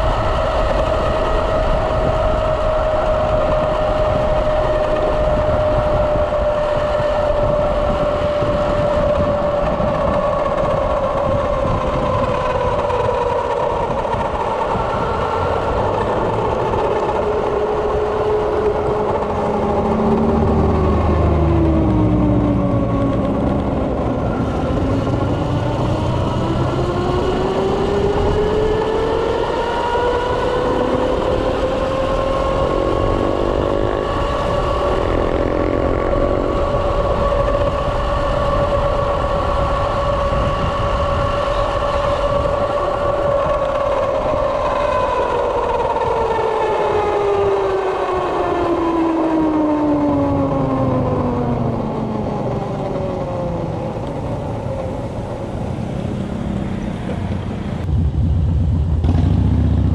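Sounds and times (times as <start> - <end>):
deep rumble: 0.0 - 59.9
wind and road noise: 0.0 - 59.9.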